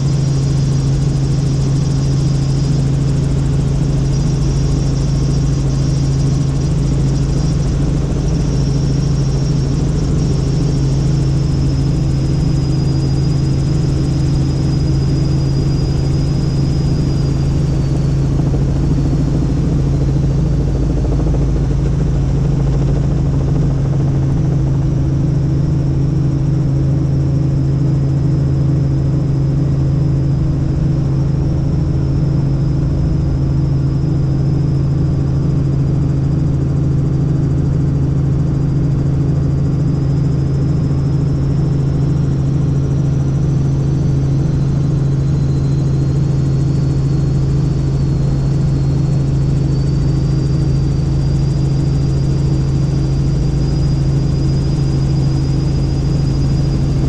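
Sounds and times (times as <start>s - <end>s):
faint high whine: 0.0s - 57.0s
helicopter engine and rotor drone: 0.0s - 57.0s.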